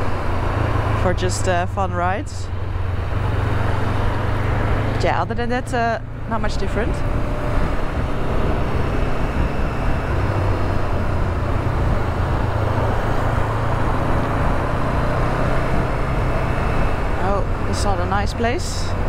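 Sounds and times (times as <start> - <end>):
motorcycle engine running: 0.0 - 19.0
wind rush: 2.5 - 19.0.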